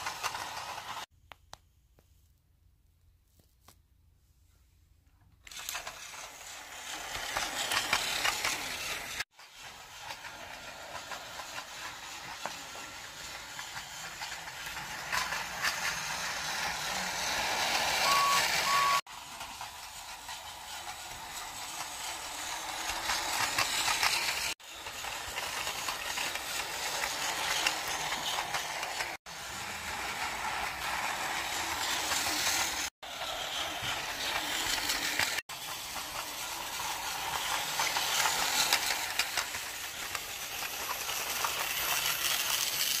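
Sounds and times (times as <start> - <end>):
toy train motor whirring: 0.0 - 1.1, 5.4 - 43.0
wheels rattling on plastic track: 0.0 - 1.1, 5.4 - 43.0.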